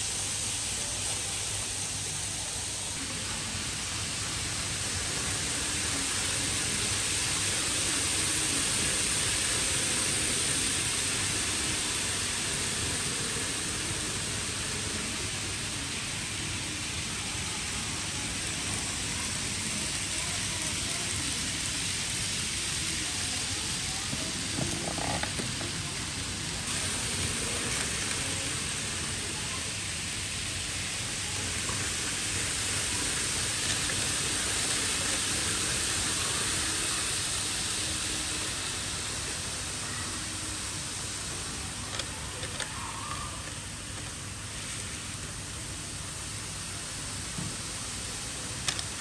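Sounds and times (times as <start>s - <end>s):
model trains running on track: 0.0s - 49.0s.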